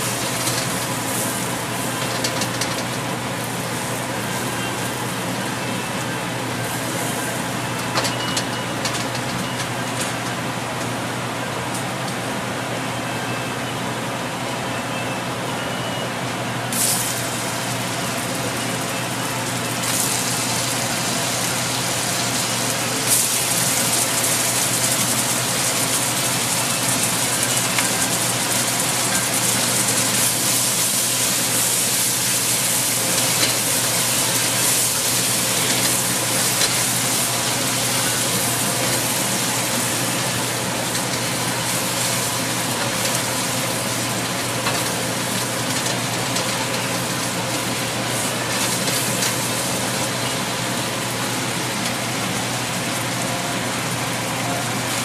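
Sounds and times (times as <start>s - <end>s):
sauce sizzling in a wok: 0.0s - 9.4s, 16.7s - 55.0s.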